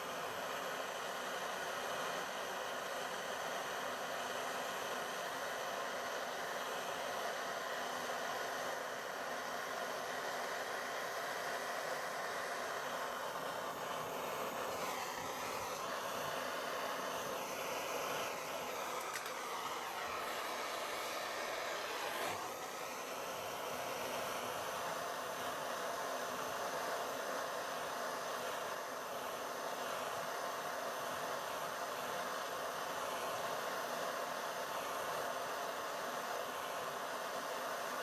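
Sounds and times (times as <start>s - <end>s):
blow lamp flame hissing: 0.0s - 38.0s.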